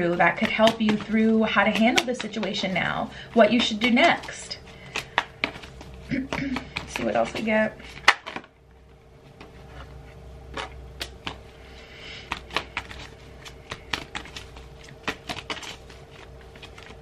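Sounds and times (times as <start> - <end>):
cards being shuffled by hand: 0.0 - 17.0.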